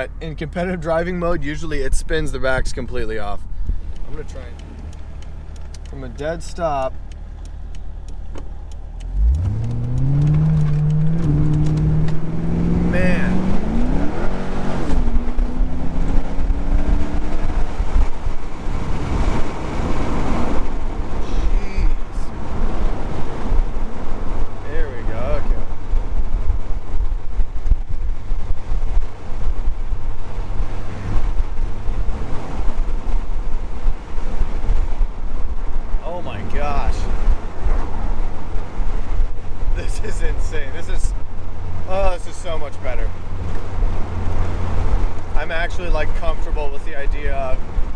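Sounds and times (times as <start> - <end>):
car engine revving: 0.0 - 47.9
road noise: 0.0 - 47.9
wind buffeting microphone: 1.2 - 41.9.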